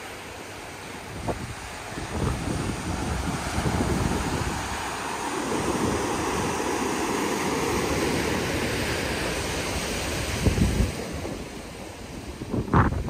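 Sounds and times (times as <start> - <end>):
ocean surf on rocky shore: 0.0 - 13.0
wind buffeting microphone: 1.0 - 13.0.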